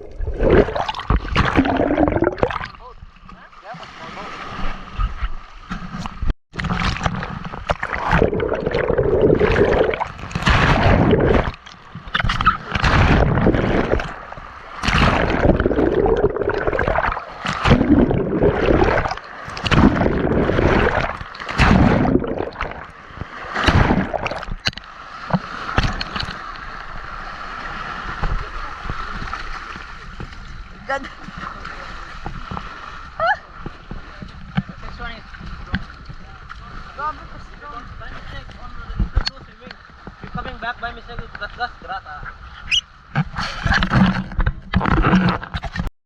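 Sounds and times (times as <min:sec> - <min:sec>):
water sloshing and gurgling: 0:00.0 - 0:45.9.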